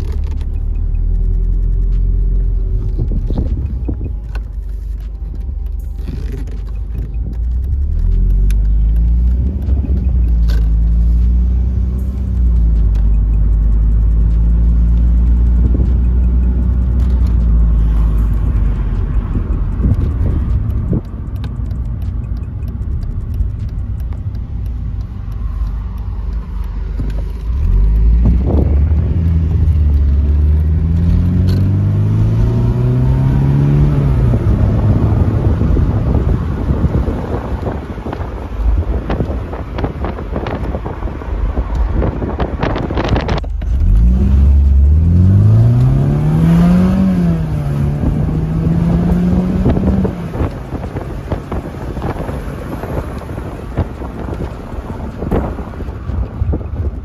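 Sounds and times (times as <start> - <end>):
car engine while driving: 0.0 - 57.0
low road rumble: 0.0 - 57.0.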